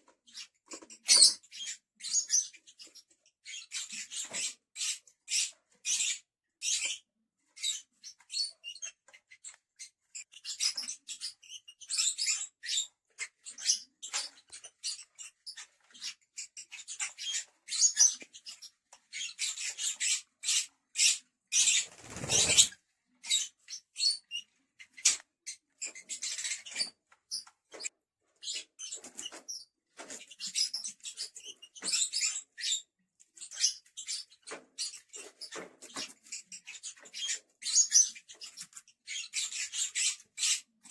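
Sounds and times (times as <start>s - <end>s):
lovebirds chirping: 0.3s - 40.9s.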